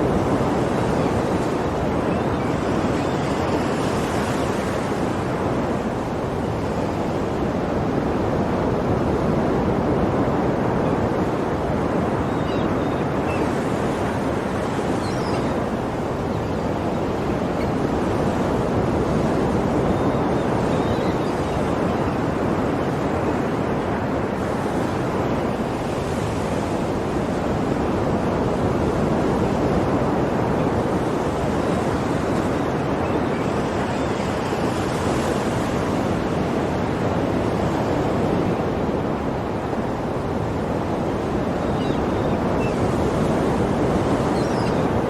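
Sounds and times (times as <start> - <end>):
sea waves washing on shore: 0.0 - 45.0.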